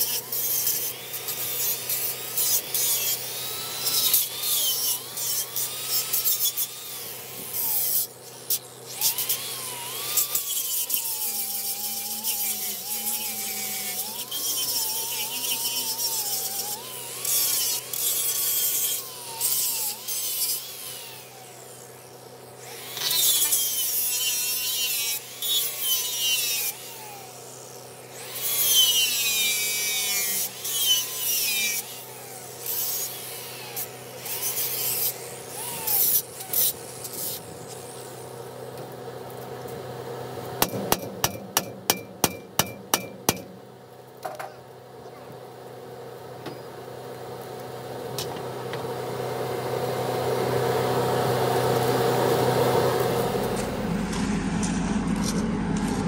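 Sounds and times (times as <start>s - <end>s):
angle grinder grinding steel: 0.0s - 39.8s, 50.5s - 56.0s.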